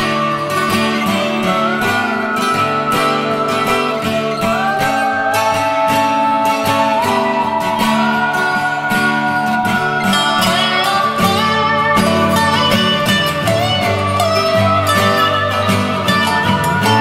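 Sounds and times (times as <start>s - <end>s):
plucked country guitar tune: 0.0s - 17.0s.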